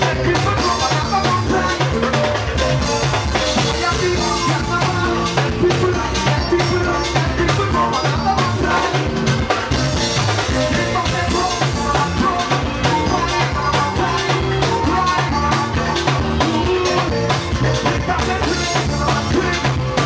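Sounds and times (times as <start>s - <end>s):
band music: 0.0s - 20.0s
drum kit beat: 0.0s - 20.0s.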